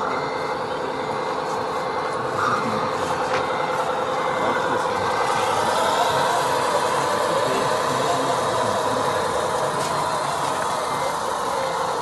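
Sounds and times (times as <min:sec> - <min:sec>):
constant motor whine: 0:00.0 - 0:12.0
toy trucks motor drone: 0:00.0 - 0:12.0.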